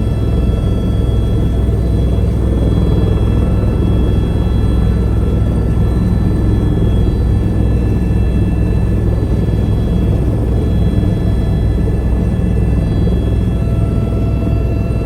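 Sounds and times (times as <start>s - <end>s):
faint high whine: 0.0s - 15.0s
helicopter rotor rumble: 0.0s - 15.0s.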